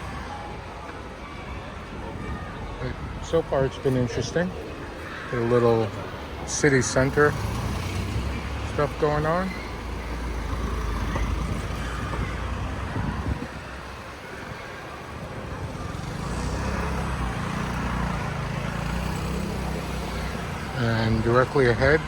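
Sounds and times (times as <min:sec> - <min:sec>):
motor vehicles passing: 0:00.0 - 0:22.0.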